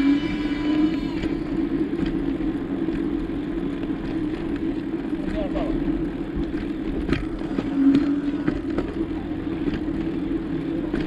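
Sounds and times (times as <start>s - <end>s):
bicycle riding hum: 0.0s - 11.0s.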